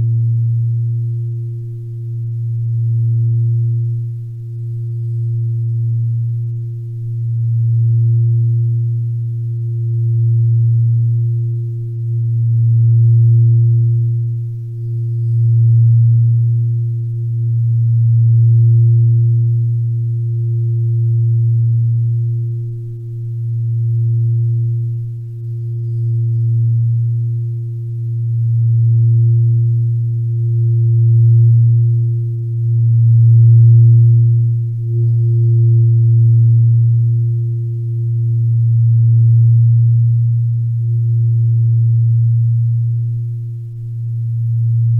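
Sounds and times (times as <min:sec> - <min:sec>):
low humming drone: 0:00.0 - 0:44.9.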